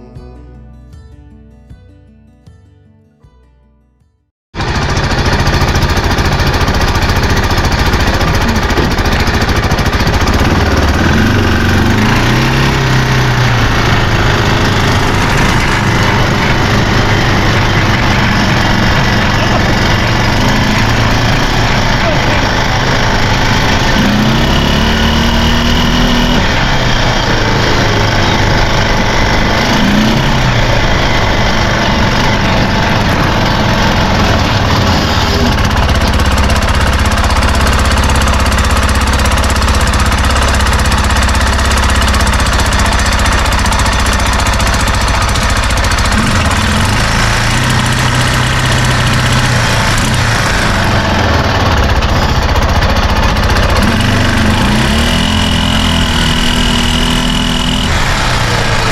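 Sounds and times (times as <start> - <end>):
single-cylinder engine running: 4.6 - 58.9.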